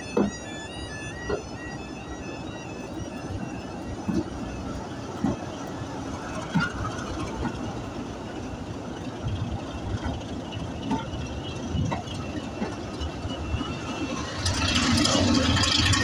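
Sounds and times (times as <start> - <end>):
locomotive engine droning: 0.0 - 16.0
train rolling noise: 0.0 - 16.0.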